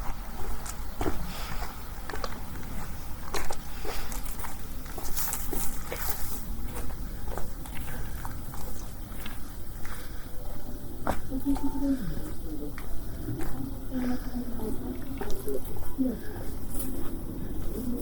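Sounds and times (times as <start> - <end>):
footsteps walking: 0.0 - 18.0.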